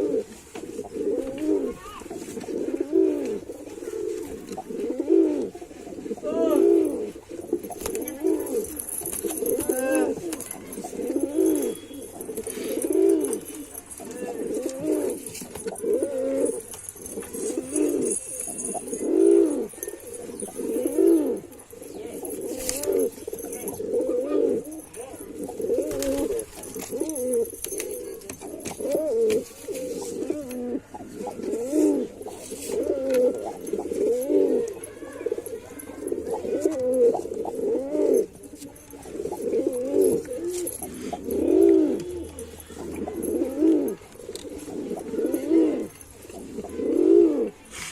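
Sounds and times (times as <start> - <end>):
pigeon cooing: 0.0 - 47.9.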